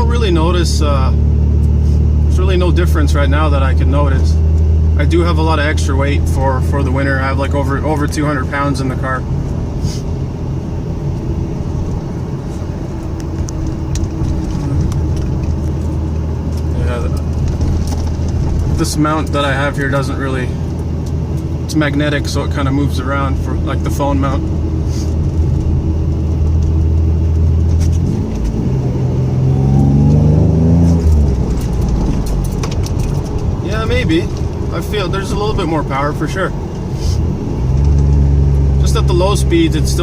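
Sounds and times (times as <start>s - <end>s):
car engine and road drone: 0.0s - 40.0s.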